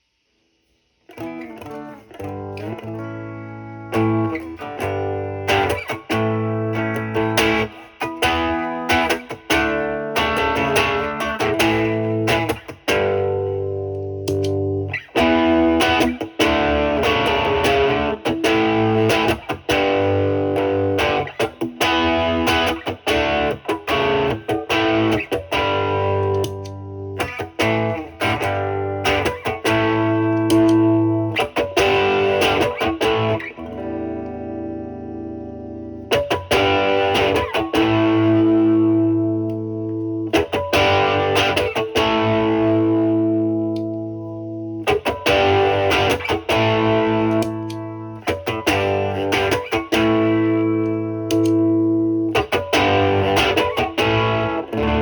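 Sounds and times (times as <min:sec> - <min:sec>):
overdriven electric guitar: 0:01.1 - 0:55.0.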